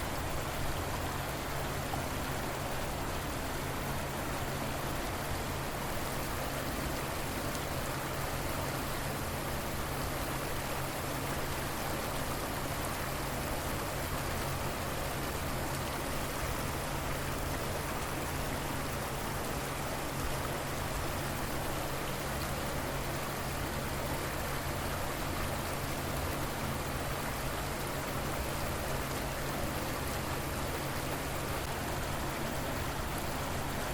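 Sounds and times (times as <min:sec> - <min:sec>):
river water flowing: 0:00.0 - 0:33.9.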